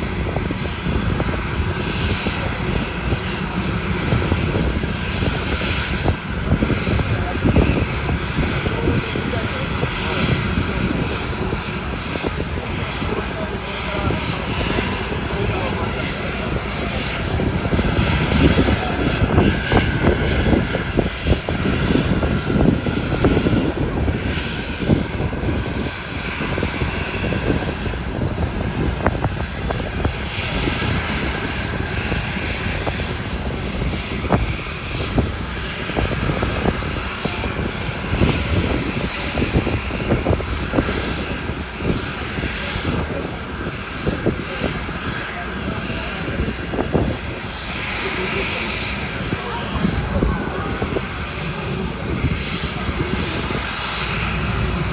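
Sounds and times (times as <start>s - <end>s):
helicopter engines and rotor: 0.0s - 54.9s.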